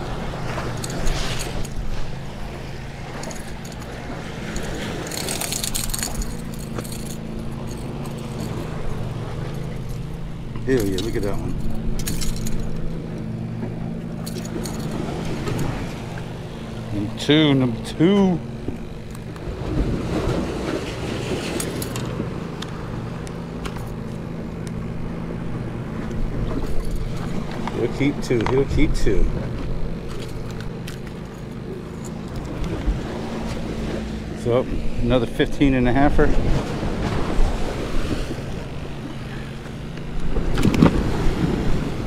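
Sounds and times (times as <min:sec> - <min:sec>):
road traffic rumble: 0:00.0 - 0:42.0.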